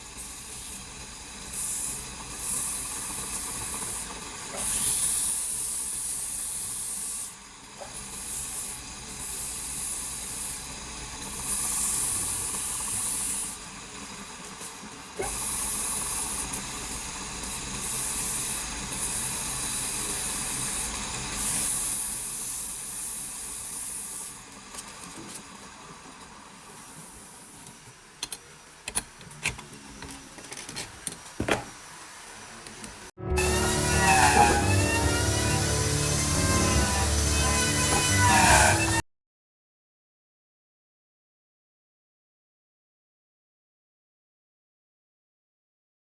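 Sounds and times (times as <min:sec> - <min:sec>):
woodworking hissing: 0:00.0 - 0:28.8, 0:29.8 - 0:39.0.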